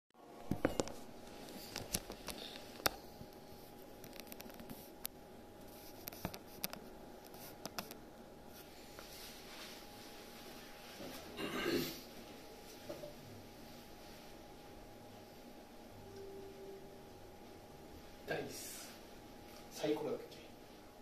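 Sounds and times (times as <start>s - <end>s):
faint room hum: 0.2s - 21.0s.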